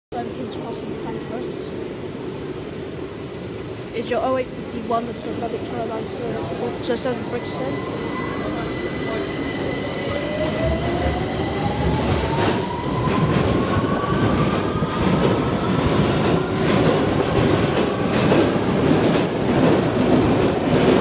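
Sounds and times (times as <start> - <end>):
train rumble: 0.1 - 21.0.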